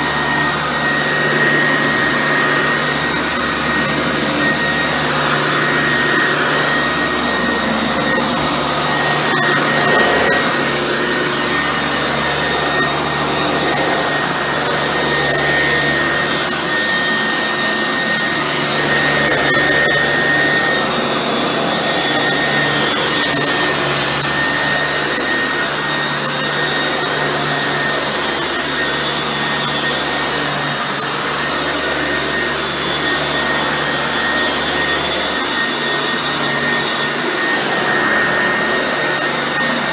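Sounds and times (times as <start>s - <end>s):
upright vacuum running on carpet: 0.0s - 39.9s.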